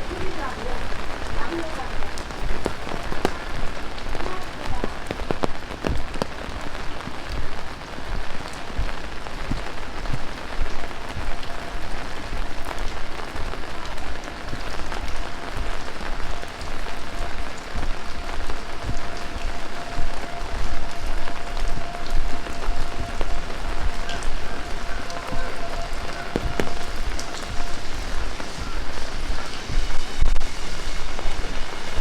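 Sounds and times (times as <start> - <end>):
heavy rain: 0.0 - 32.0
raindrops ticking: 0.0 - 32.0.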